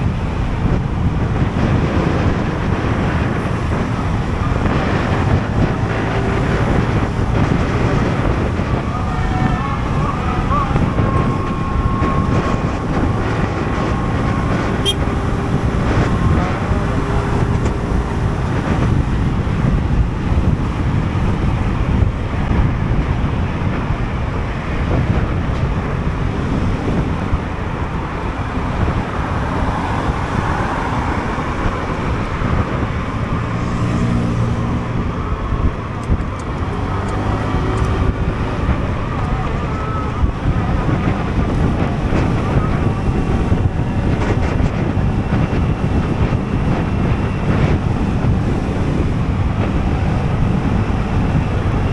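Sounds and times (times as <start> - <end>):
road traffic: 0.0 - 51.9
scooter engine: 0.0 - 51.9
wind buffeting microphone: 0.0 - 51.9.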